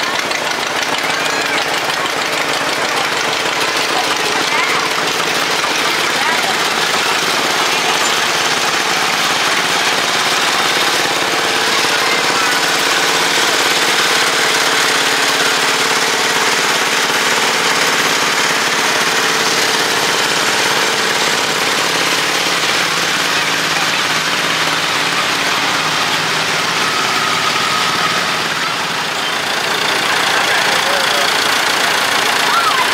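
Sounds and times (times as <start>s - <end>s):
lawn tractor engines running: 0.0s - 32.9s.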